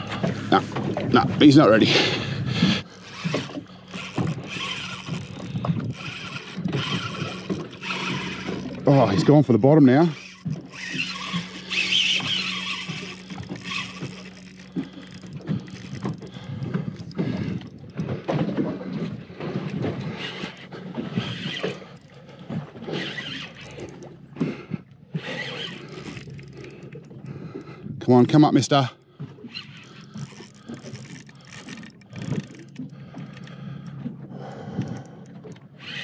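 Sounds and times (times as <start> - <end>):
fishing reel drag ticking: 0.0 - 36.0
reel handle being wound: 0.0 - 36.0.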